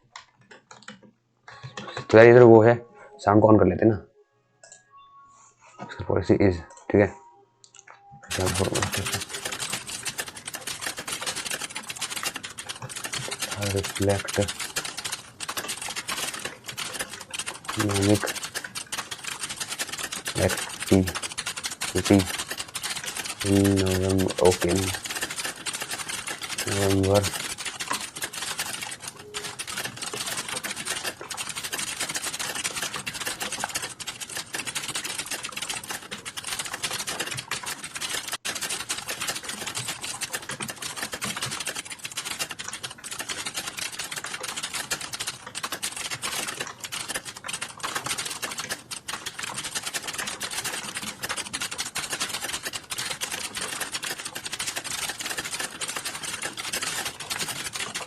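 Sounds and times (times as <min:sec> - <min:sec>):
computer keyboard typing: 0:00.2 - 0:02.2, 0:07.7 - 0:58.0.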